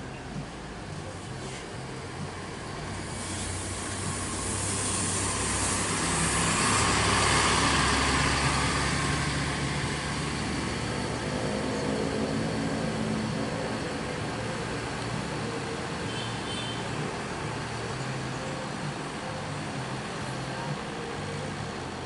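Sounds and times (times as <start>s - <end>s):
bus diesel engine passing: 0.0s - 22.0s.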